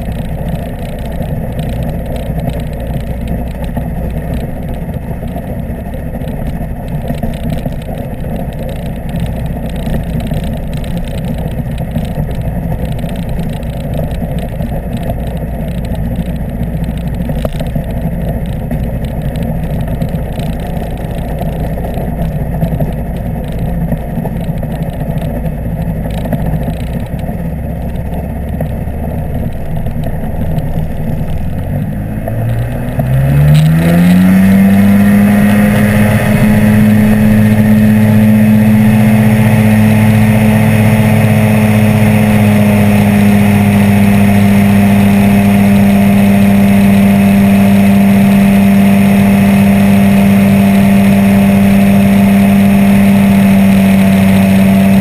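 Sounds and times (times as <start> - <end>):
microlight engine and propeller: 0.0 - 55.0.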